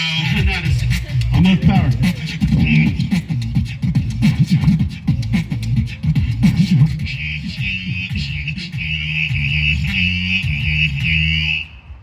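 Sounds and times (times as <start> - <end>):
beatboxing into a microphone: 0.0 - 11.9.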